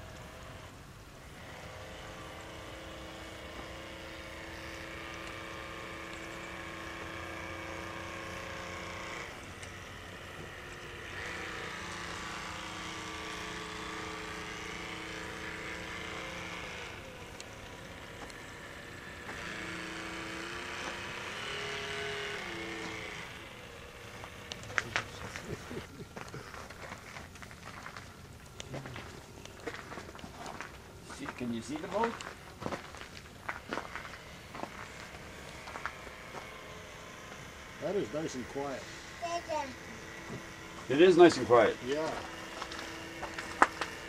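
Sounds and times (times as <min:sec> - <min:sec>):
model boat motor whining: 0:00.0 - 0:44.0.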